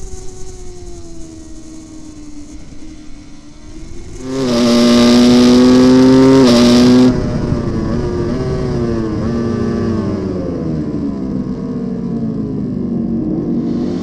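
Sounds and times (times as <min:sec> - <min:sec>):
superbike engine revving high: 0:00.0 - 0:14.0.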